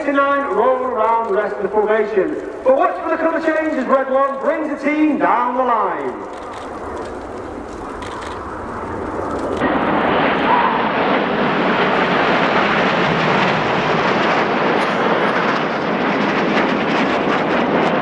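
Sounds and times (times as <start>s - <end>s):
jet engines passing: 0.0s - 18.0s.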